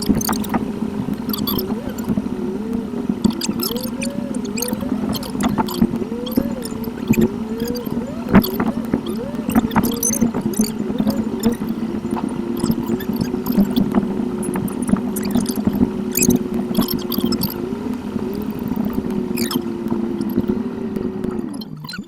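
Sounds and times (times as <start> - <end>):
car engine and road hum: 0.0 - 21.8
ticks: 0.0 - 22.0.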